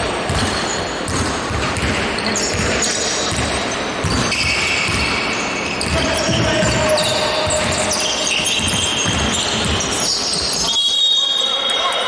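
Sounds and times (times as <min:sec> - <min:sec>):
court noise: 0:00.0 - 0:12.0
basketball bouncing on gym floor: 0:00.2 - 0:10.7.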